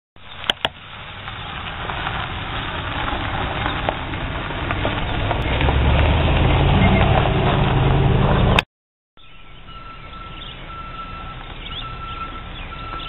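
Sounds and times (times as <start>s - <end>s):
truck engine hum: 0.2s - 8.6s, 9.2s - 13.0s
tyres on gravel: 0.2s - 8.6s, 9.2s - 13.0s.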